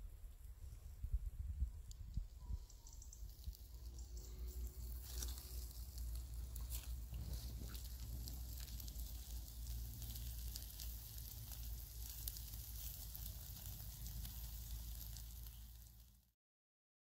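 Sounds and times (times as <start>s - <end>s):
steady low rumble: 0.0s - 16.3s
fish sizzling on charcoal grill: 2.6s - 16.3s.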